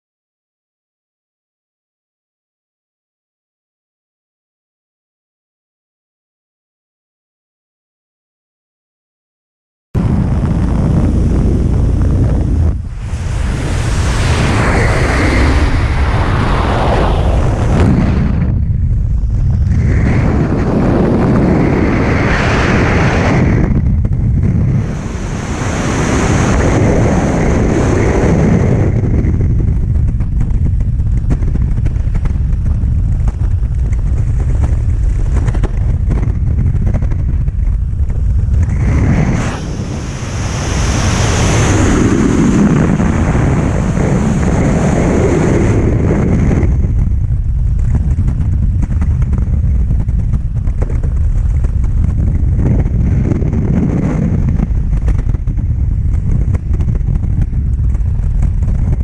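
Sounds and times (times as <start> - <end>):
wind buffeting microphone: 10.0 - 59.0.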